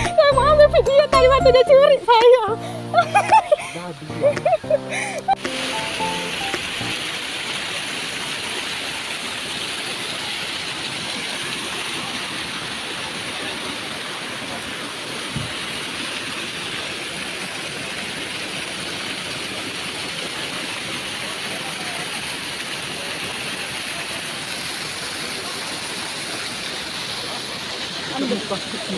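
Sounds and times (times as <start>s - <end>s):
waterfall rushing: 1.7s - 28.9s.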